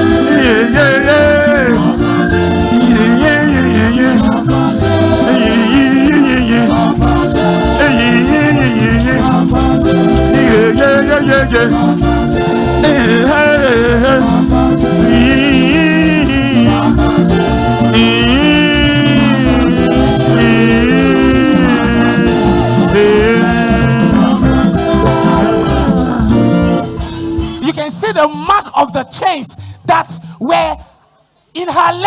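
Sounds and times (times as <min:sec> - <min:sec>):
person singing: 0:00.0 - 0:28.6
gospel band with steady beat: 0:00.0 - 0:30.4.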